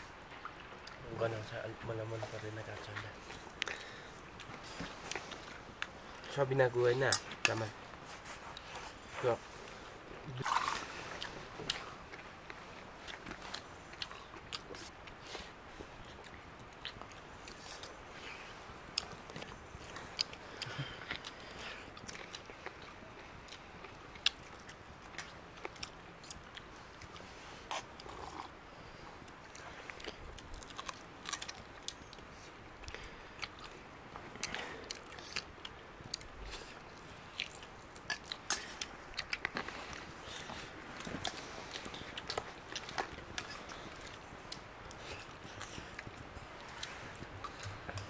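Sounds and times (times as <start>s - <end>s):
chewing and crunching: 0.1s - 48.0s.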